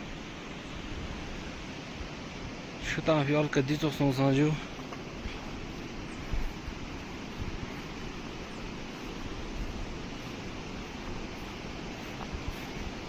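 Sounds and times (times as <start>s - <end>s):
wind buffeting microphone: 0.0s - 3.1s, 3.9s - 13.0s
steady rushing noise: 0.0s - 13.0s.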